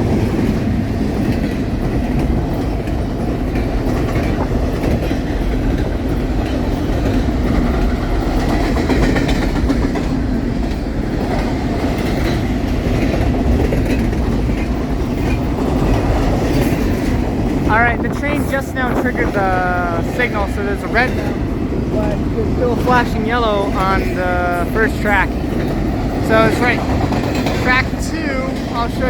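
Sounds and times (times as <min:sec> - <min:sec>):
clicks from train cars: 0:00.0 - 0:29.0
freight train wheels rumbling: 0:00.0 - 0:29.0.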